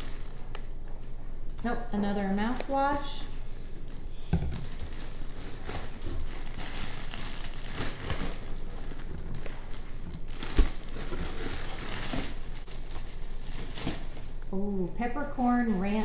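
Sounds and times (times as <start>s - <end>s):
plastic wrap crinkling: 0.0s - 14.6s.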